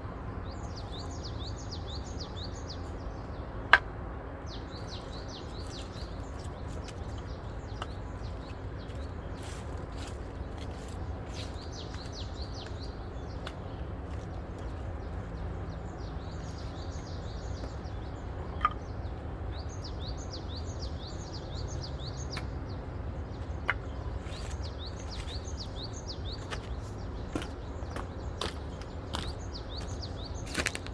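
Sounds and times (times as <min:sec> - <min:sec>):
small birds chirping: 0:00.4 - 0:03.6, 0:04.5 - 0:30.9.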